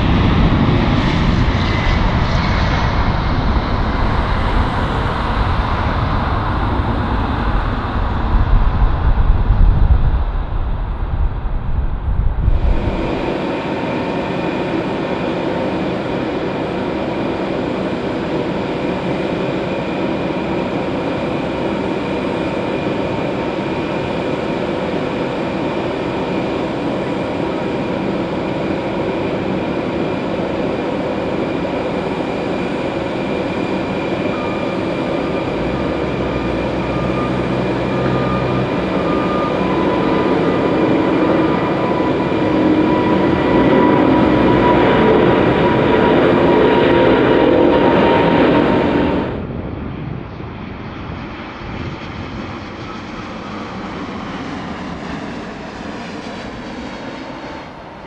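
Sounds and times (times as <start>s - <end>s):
whining fan tones: 0.0s - 49.7s
jet engines at takeoff: 0.0s - 58.0s.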